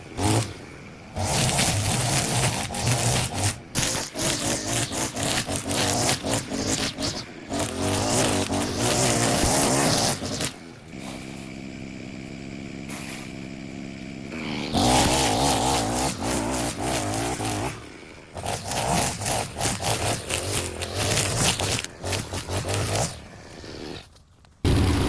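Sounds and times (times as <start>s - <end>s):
small petrol engine running: 0.0s - 25.0s.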